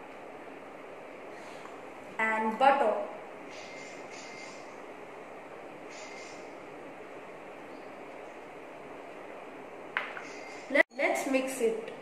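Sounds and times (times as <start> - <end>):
room noise hiss: 0.0 - 12.0.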